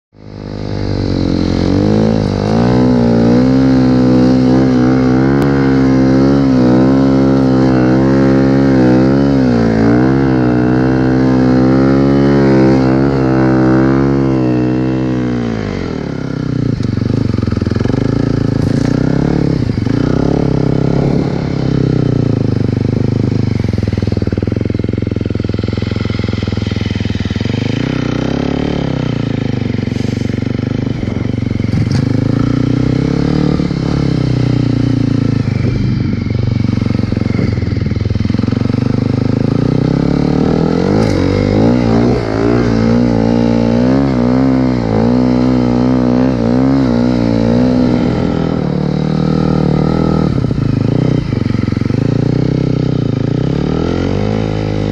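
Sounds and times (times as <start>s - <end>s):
snowmobile engine revving: 0.3s - 54.9s.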